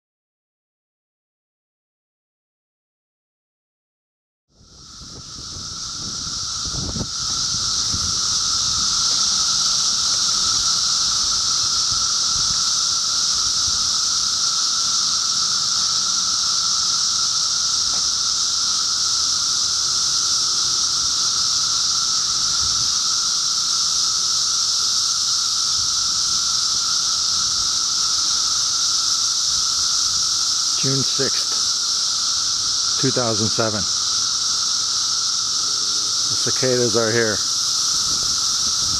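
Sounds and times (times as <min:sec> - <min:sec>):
cicadas droning: 0:04.5 - 0:38.9.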